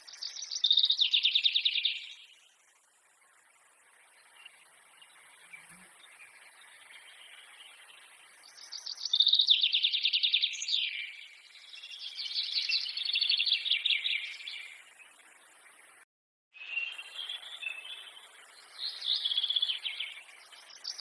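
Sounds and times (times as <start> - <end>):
songbird trilling: 0.0 - 2.4, 4.2 - 15.2, 16.6 - 21.0
faint forest background: 0.0 - 21.0.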